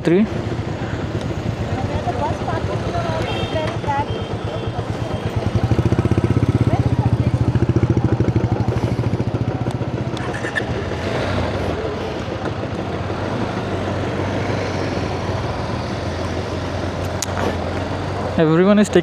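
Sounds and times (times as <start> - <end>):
crowd noise: 0.0 - 19.0
traffic: 0.0 - 19.0
motorcycle engine idling: 0.3 - 19.0.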